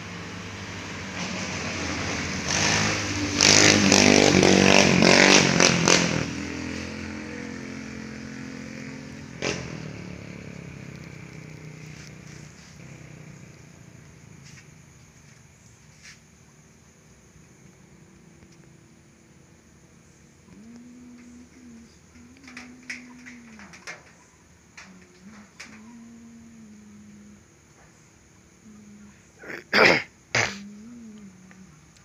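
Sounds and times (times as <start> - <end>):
vehicle engine passing by: 0.0 - 16.2, 19.0 - 29.3.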